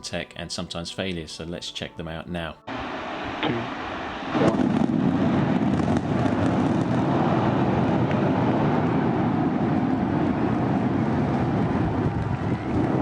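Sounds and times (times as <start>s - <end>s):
rocket engines low rumble: 0.0s - 13.0s.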